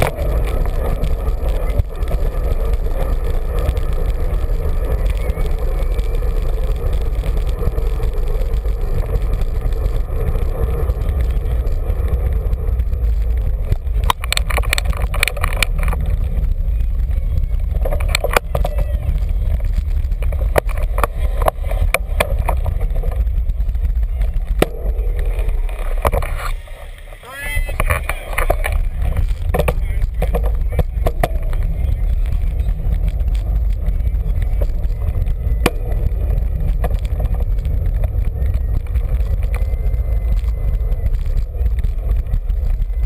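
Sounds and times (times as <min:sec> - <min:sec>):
road rumble: 0:00.0 - 0:43.0
sharp clicks and rattles: 0:00.0 - 0:43.0
wind buffeting microphone: 0:00.0 - 0:43.0.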